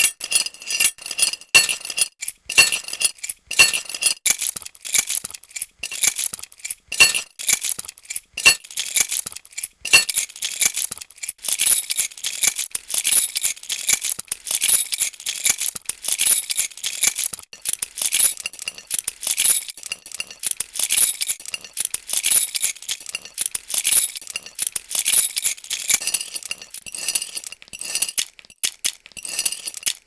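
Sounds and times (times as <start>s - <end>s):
metal keys jingling: 0.0s - 27.7s.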